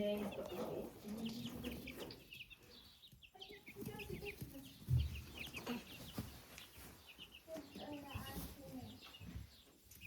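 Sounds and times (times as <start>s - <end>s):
baby chicks cheeping: 0.0s - 10.0s.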